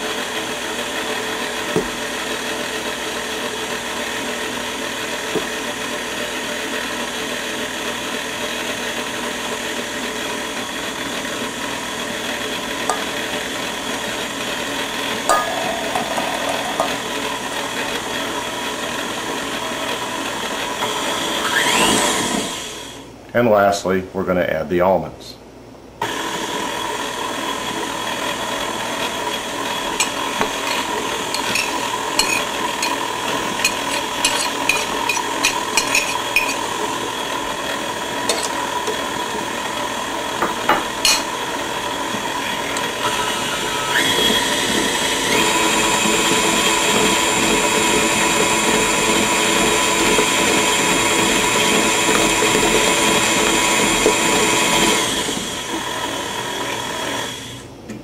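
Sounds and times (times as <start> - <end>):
stand mixer motor running: 0.0 - 23.0, 26.0 - 57.7.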